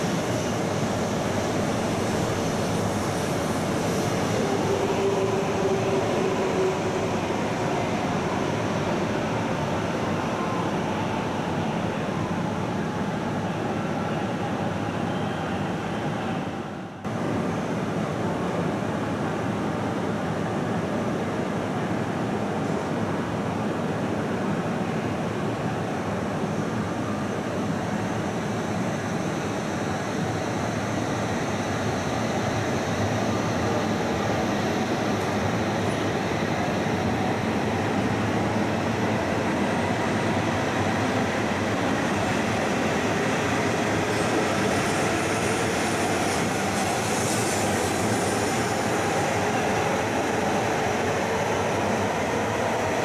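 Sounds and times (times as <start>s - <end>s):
high hiss of passing train: 0.0s - 53.0s.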